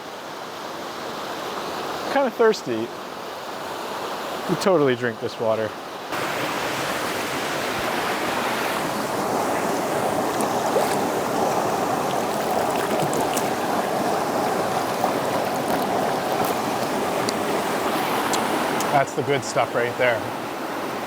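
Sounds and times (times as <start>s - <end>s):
creek water running over rocks: 0.9s - 21.0s.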